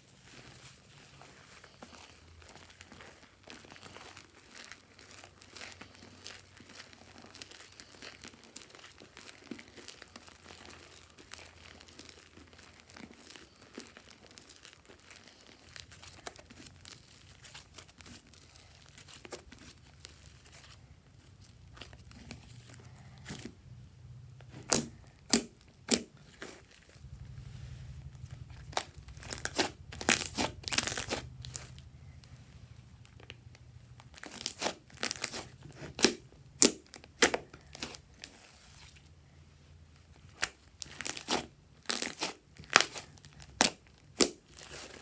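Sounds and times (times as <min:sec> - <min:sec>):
slime crackling and popping: 0:00.4 - 0:23.4, 0:24.4 - 0:38.9, 0:40.1 - 0:45.0.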